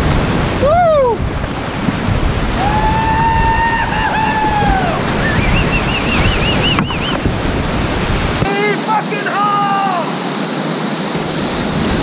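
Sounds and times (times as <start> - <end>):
rushing whitewater roar: 0.0 - 12.0.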